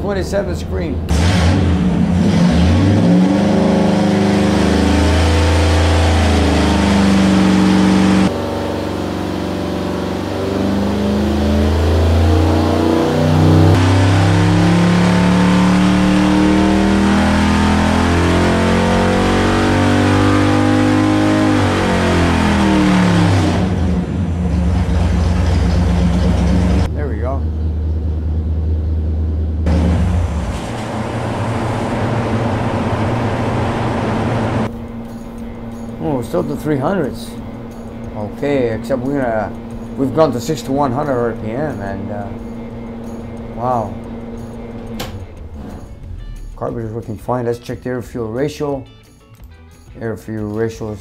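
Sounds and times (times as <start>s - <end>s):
engine revving at full throttle: 1.1s - 47.4s.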